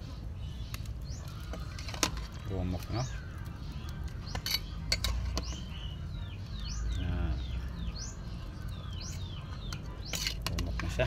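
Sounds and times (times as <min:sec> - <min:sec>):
bird chirping: 0:00.0 - 0:11.0
boiling pot rumble: 0:00.0 - 0:11.0.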